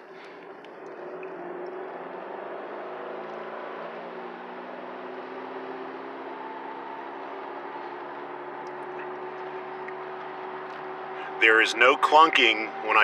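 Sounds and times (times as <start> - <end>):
car whirring tones: 0.0 - 13.0
road noise: 0.0 - 13.0.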